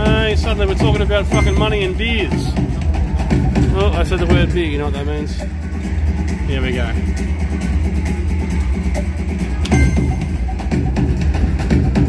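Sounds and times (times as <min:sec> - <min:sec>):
slot machine music with heavy bass: 0:00.0 - 0:12.0.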